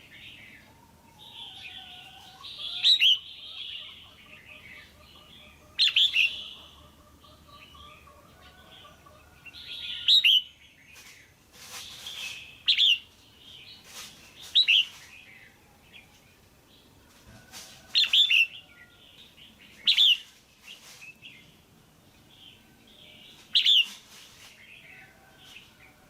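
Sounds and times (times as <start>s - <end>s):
bird chirping calls: 0.0s - 17.0s, 17.9s - 25.8s.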